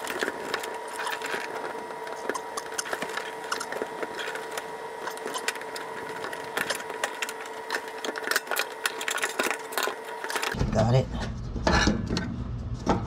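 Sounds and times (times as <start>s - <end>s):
faint steady whine: 0.0s - 10.6s.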